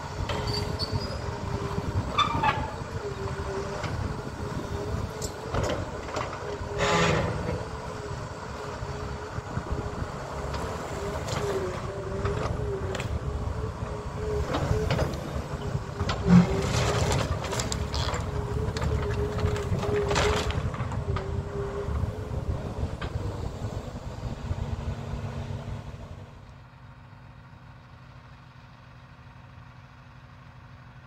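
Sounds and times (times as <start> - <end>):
demolition machine engine whine: 0.0 - 31.0.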